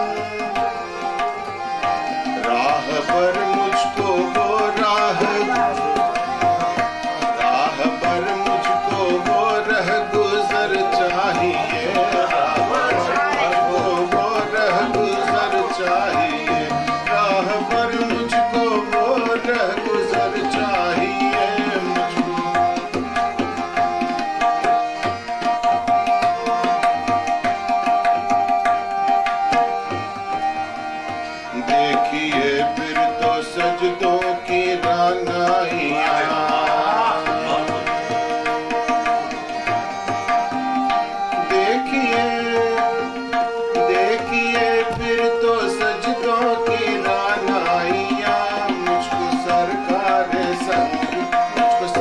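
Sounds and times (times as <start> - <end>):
man singing: 0.0 - 28.0, 31.4 - 52.0
harmonium: 0.0 - 52.0
tabla rhythm: 0.0 - 52.0.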